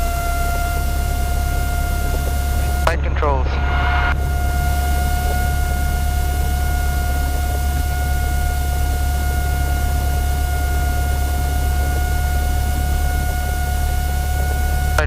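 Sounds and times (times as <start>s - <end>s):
aircraft piston engine idling: 0.0s - 15.0s.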